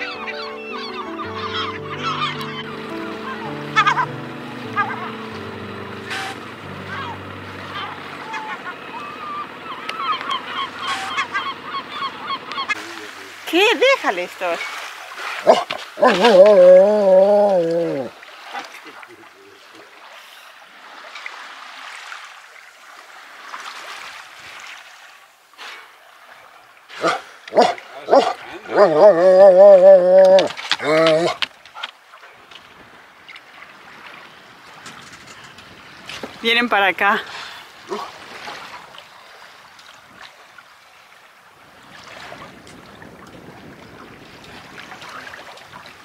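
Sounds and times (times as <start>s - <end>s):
sea water rushing and splashing: 0.0s - 46.0s.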